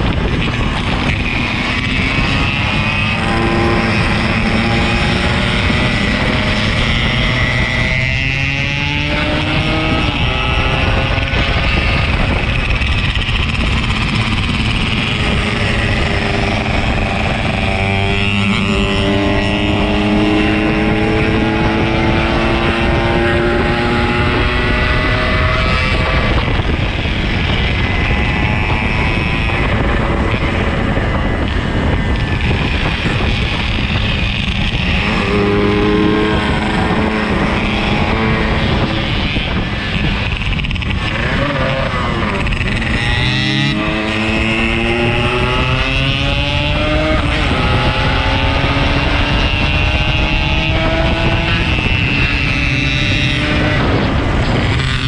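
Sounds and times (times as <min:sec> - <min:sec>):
two-stroke motorcycle engine: 0:00.0 - 0:55.0
wind and road noise: 0:00.0 - 0:55.0.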